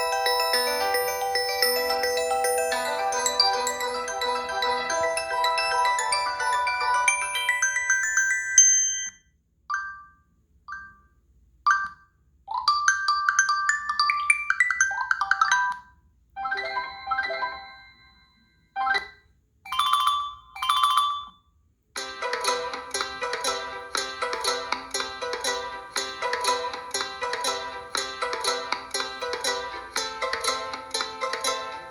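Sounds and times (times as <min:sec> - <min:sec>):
ringtone melodies: 0:00.0 - 0:11.1, 0:11.7 - 0:21.4, 0:22.0 - 0:31.9.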